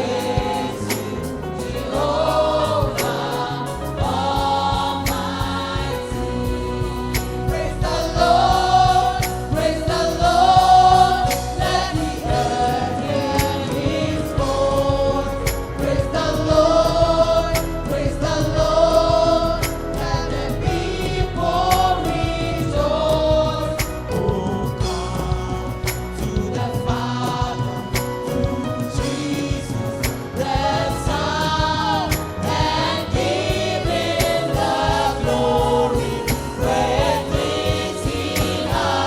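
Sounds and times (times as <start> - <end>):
drum hits: 0.0 - 39.0
group singing gospel in harmony: 0.0 - 39.0
live band playing: 0.0 - 39.0.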